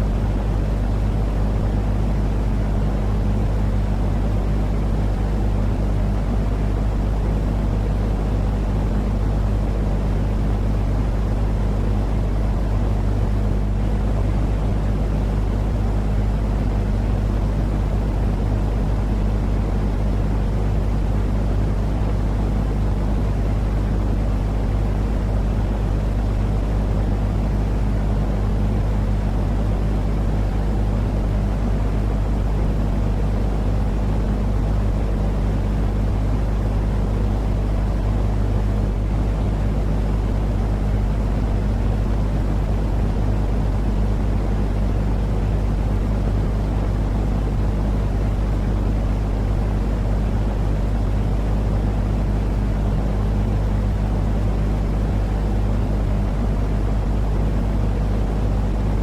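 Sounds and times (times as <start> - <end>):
low white noise rush: 0.0 - 59.0
steady low hum: 0.0 - 59.0.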